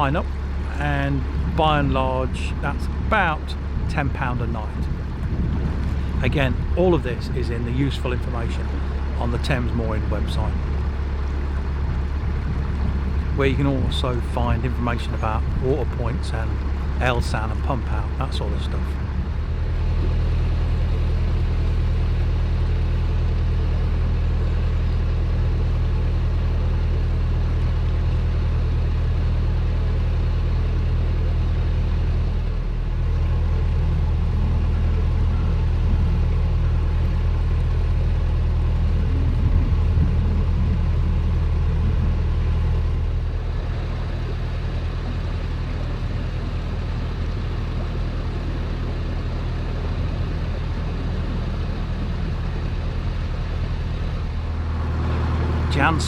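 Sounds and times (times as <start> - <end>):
boat diesel engine running: 0.0 - 56.0.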